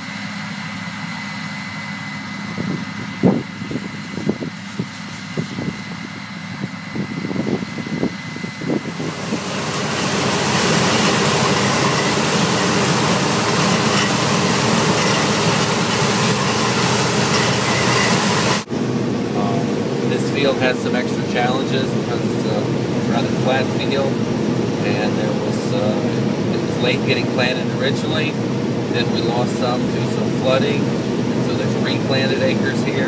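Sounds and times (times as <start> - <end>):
combine harvester engine hum: 0.0 - 33.0.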